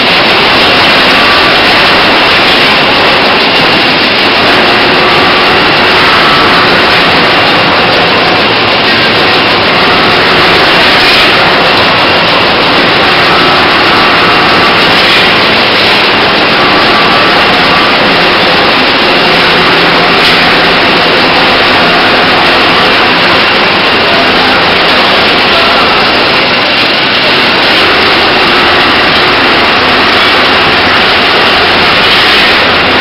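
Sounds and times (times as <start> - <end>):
crusher mills and conveyors grinding: 0.0 - 33.0.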